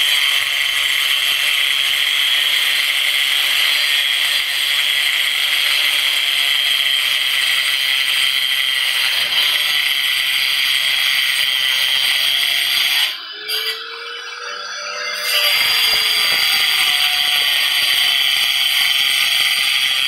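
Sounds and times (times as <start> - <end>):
angle grinder cutting grout: 0.0 - 20.0.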